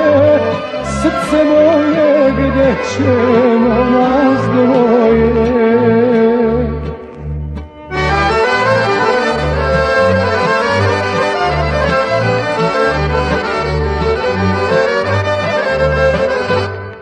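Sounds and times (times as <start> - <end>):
accordion melody: 0.0 - 17.0
bass line: 0.0 - 17.0.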